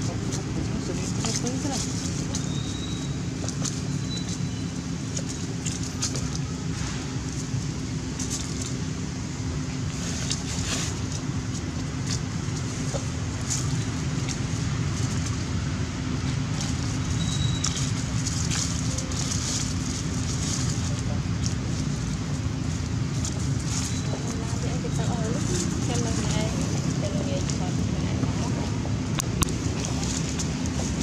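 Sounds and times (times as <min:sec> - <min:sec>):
dry leaves crackling and rustling: 0:00.0 - 0:31.0
steady low rumble: 0:00.0 - 0:31.0.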